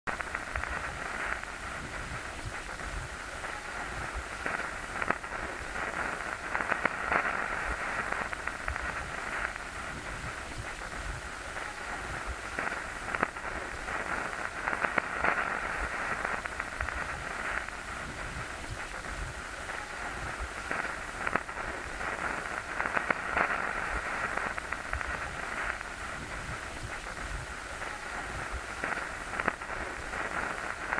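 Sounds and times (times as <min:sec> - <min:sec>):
tv static hiss: 0:00.0 - 0:30.9
sharp crackles and clicks: 0:00.1 - 0:30.9.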